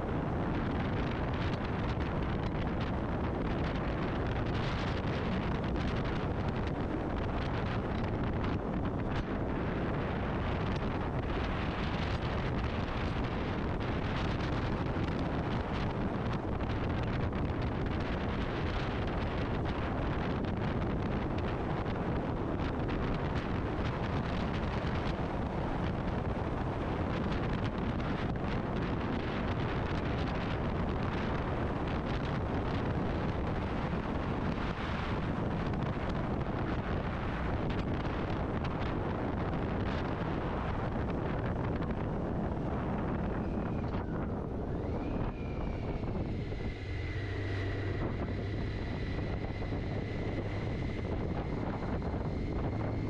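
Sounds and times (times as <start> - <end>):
motorcycle engine and road noise: 0.0 - 53.0
wind rushing over microphone: 0.0 - 53.0.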